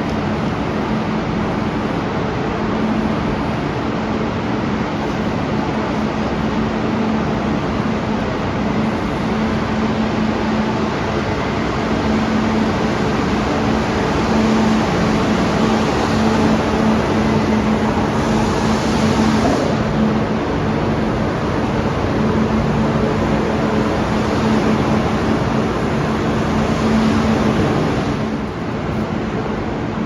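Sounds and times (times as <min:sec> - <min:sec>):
train mechanical hum: 0:00.0 - 0:30.0.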